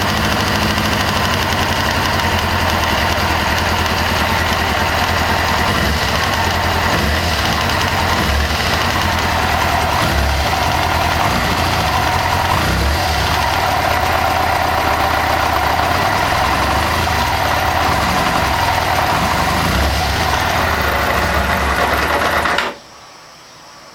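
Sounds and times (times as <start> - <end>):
engine ticking: 0.0 - 22.6
motorcycle engine idling: 0.0 - 22.6.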